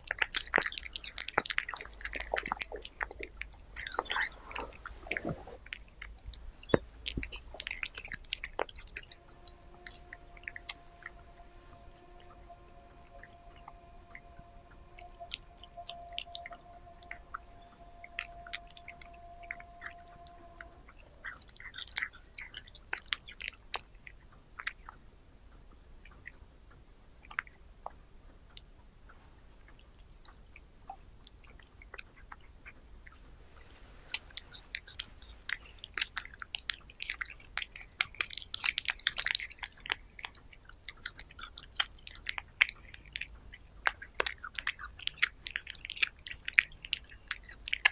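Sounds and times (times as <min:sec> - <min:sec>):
cat chewing raw meat: 0:00.0 - 0:25.0, 0:29.3 - 0:47.9.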